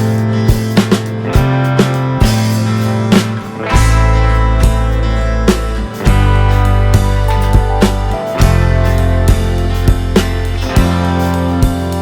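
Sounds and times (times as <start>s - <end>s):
guitar rock music with drums: 0.0s - 12.0s.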